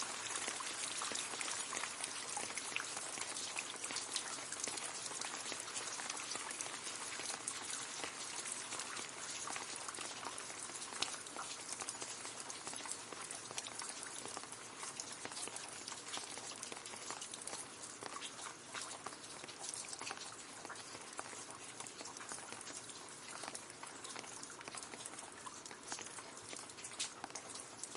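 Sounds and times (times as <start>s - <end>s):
rain pattering on leaves: 0.0s - 27.9s.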